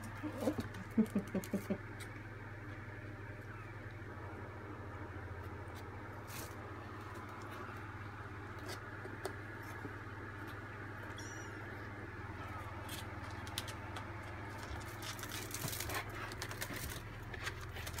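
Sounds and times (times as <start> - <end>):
kittens rustling and scratching: 0.0 - 4.0, 5.3 - 18.0
steady low hum: 0.0 - 18.0.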